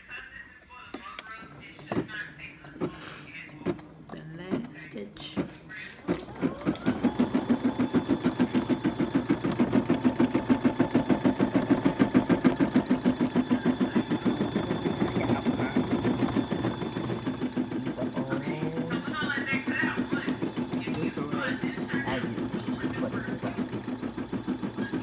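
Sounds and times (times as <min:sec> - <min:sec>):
embroidery machine stitching: 0:01.2 - 0:25.0.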